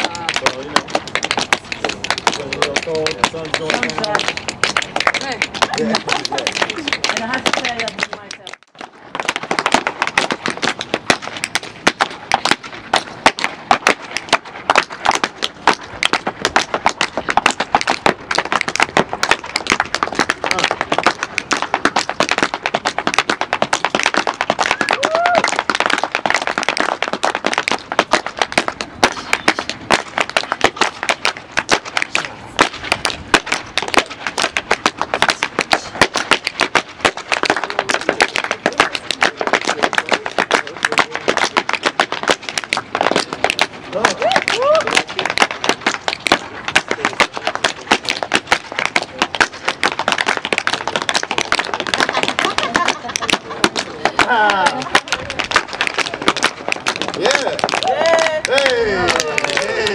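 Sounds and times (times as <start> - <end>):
tap shoes on wooden boards: 0.0 - 59.9.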